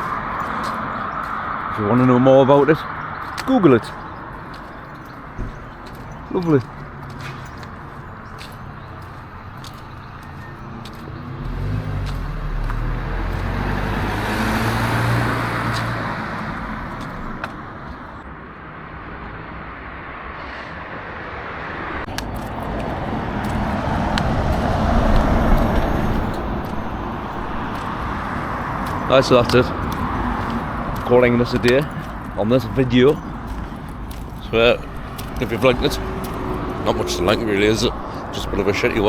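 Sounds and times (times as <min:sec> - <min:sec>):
car passing: 0:00.0 - 0:39.0
vehicle passing: 0:00.0 - 0:39.0.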